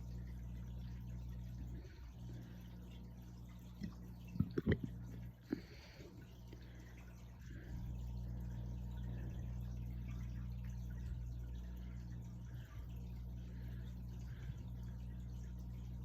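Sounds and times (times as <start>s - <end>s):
low hum: 0.0s - 16.0s
water running: 0.0s - 16.0s.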